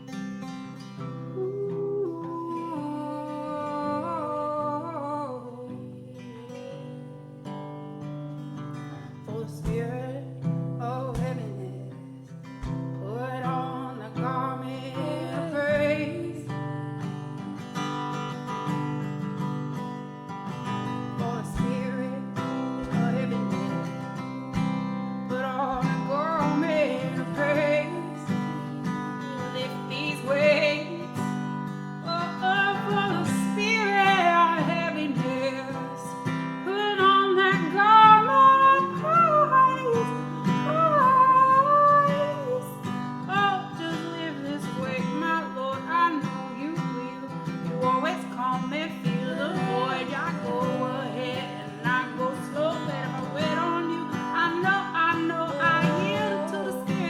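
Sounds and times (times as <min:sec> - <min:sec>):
acoustic guitar strummed: 0:00.0 - 0:57.0
person singing without words: 0:01.0 - 0:07.3, 0:09.0 - 0:18.0, 0:20.8 - 0:57.0.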